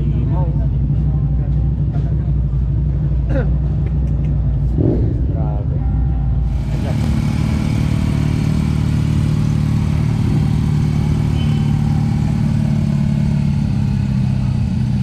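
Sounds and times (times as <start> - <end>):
motorcycle engine idling low: 0.0 - 15.0.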